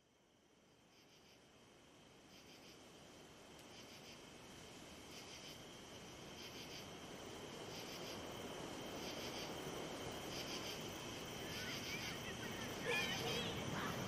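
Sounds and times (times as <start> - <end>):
crickets chirping: 0.0 - 14.0
night ambience hiss: 0.0 - 14.0.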